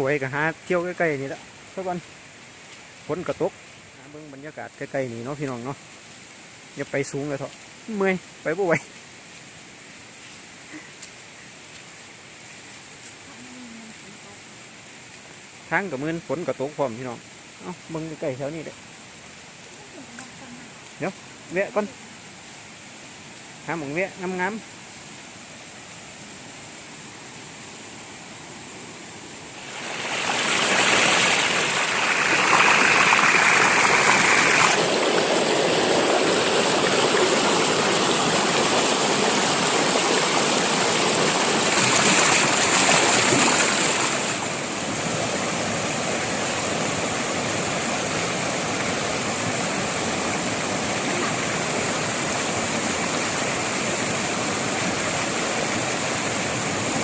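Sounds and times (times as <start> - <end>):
stream and waterfall rushing: 0.0 - 57.0.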